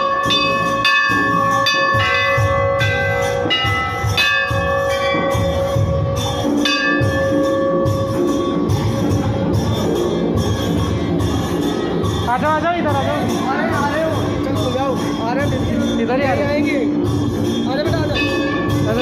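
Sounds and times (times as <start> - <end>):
low rhythmic beat: 0.0 - 19.0
temple bells ringing: 0.0 - 19.0.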